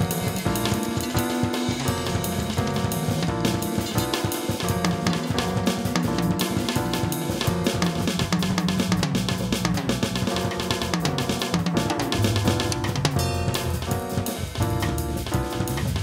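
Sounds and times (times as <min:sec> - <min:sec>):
keyboard playing: 0:00.0 - 0:08.3, 0:10.2 - 0:16.0
drum kit playing: 0:00.0 - 0:16.0
walking electric bass line: 0:01.9 - 0:16.0.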